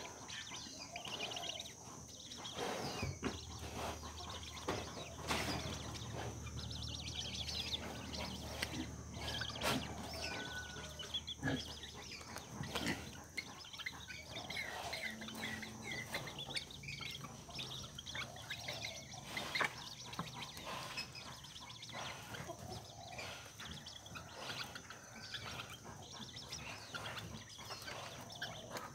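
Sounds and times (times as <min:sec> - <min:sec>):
young birds chirping and clucking: 0:00.0 - 0:28.9.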